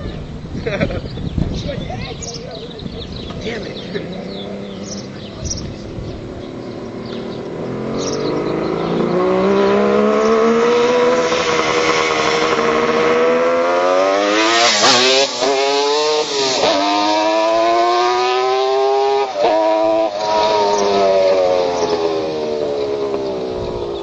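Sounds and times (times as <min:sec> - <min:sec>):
two-stroke motorcycle accelerating: 0:02.8 - 0:24.0.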